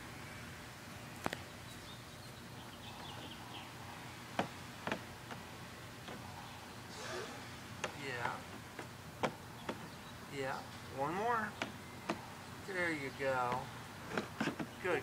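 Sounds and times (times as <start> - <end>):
low outdoor background: 0.0 - 15.0.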